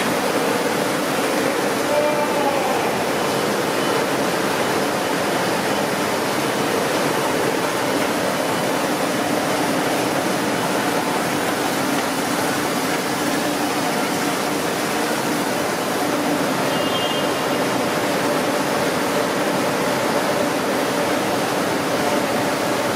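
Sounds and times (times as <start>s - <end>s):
continuous machinery hiss: 0.0s - 22.9s.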